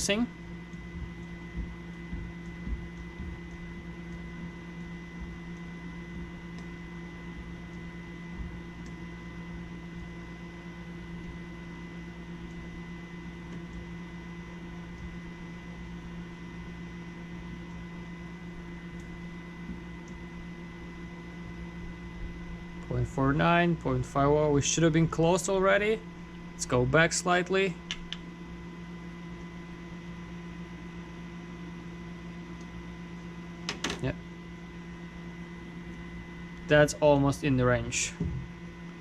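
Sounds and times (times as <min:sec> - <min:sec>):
small air pump humming: 0:00.0 - 0:39.0.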